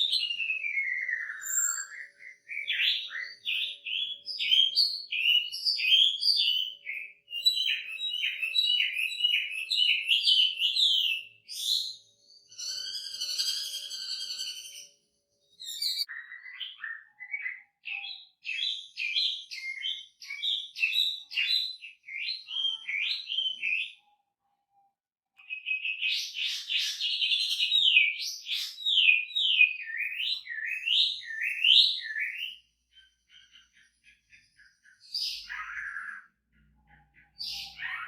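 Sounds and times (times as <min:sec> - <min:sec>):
bird singing whistled phrases: 0:00.0 - 0:24.2, 0:25.4 - 0:32.7, 0:34.8 - 0:36.4, 0:37.3 - 0:38.0.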